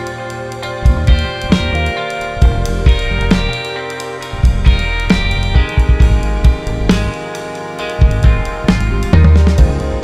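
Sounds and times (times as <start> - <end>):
music with drums and guitar: 0.0 - 10.0.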